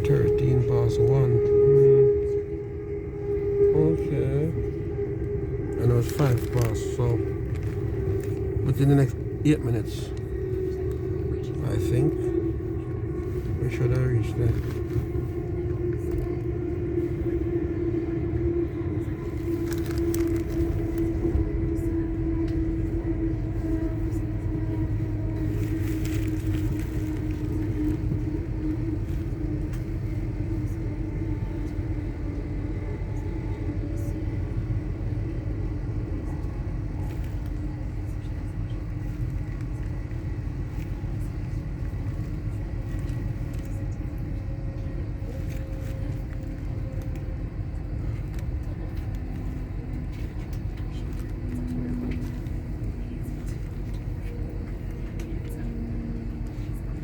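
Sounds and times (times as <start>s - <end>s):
constant low hum: 0.0s - 57.0s
train running rumble: 0.0s - 57.0s.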